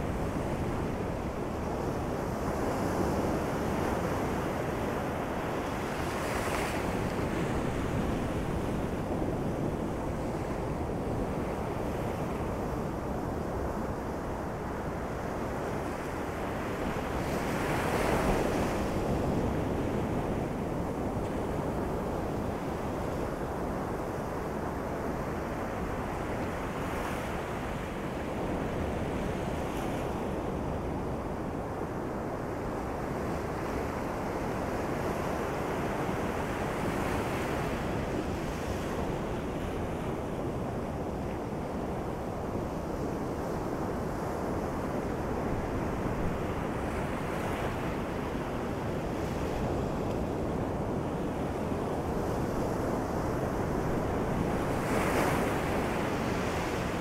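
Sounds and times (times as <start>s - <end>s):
waves washing on beach: 0.0s - 57.0s.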